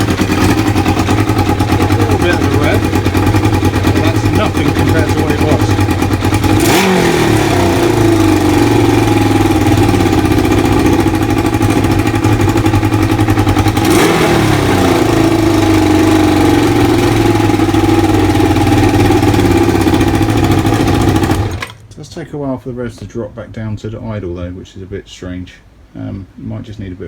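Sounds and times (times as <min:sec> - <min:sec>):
motorcycle engine revving: 0:00.0 - 0:21.8.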